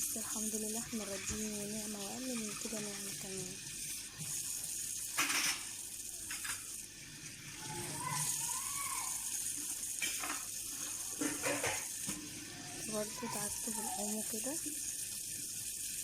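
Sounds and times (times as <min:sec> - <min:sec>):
tap water running into sink: 0:00.0 - 0:16.0.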